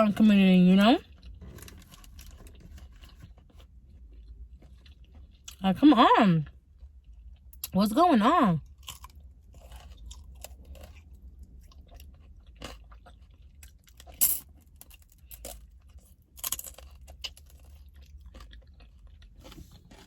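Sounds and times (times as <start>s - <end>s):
person chewing and crunching food: 1.0s - 5.6s, 6.4s - 7.7s, 8.6s - 20.0s.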